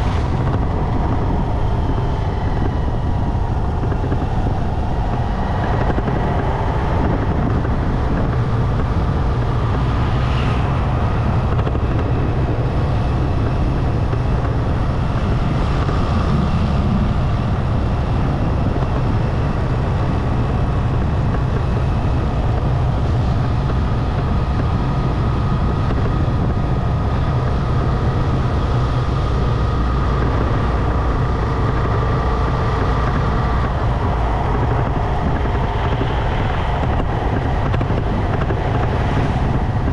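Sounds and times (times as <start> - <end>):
motorcycle engine rumble: 0.0 - 39.9
wind over microphone: 0.0 - 39.9.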